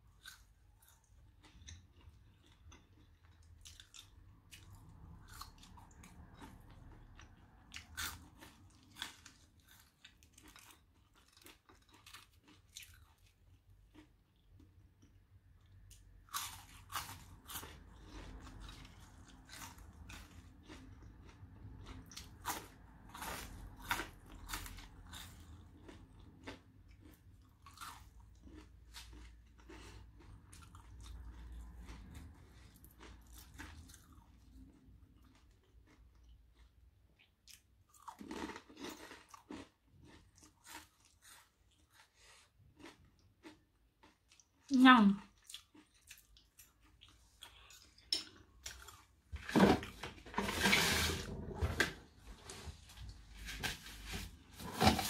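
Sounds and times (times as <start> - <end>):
person chewing food: 0.0 - 50.3, 51.4 - 55.0.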